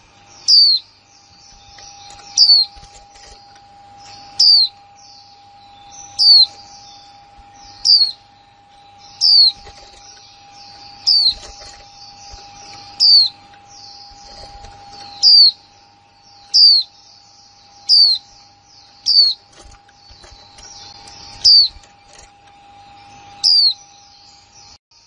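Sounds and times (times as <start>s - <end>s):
bird sharp downsweeping call: 0.0s - 24.0s.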